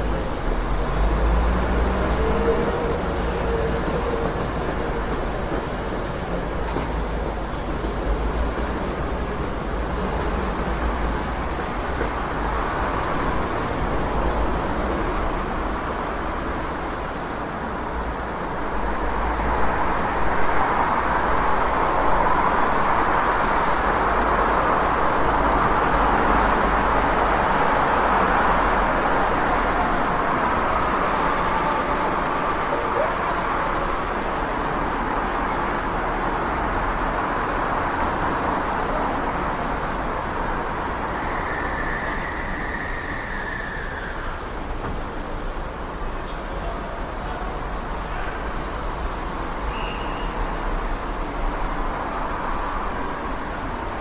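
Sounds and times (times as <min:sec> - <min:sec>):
cars passing: 0:00.0 - 0:54.0
low traffic rumble: 0:00.0 - 0:54.0.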